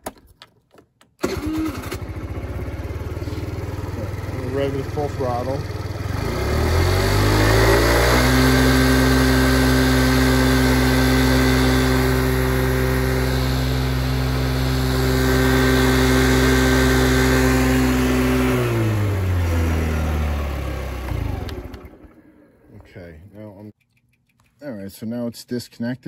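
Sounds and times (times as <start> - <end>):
scooter engine revving: 1.2 - 22.7.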